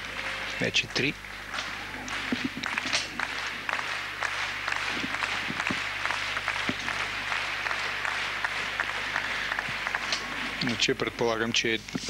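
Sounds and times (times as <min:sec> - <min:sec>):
crowd applauding: 0:00.0 - 0:11.8
low steady hum: 0:00.0 - 0:12.0.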